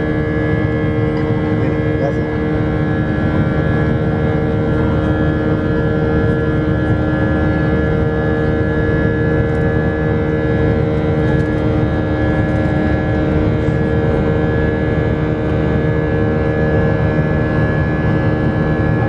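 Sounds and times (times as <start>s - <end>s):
jet engines rumbling in cabin: 0.0s - 19.0s.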